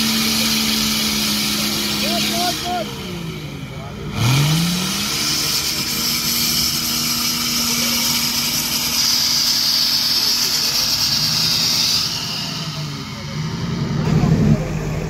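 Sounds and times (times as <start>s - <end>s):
vehicle engine revving hard: 0.0s - 15.0s
wheels churning mud: 0.0s - 15.0s.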